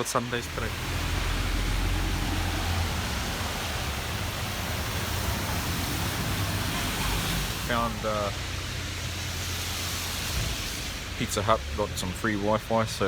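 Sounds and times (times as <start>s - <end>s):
even rushing street noise: 0.0s - 13.0s.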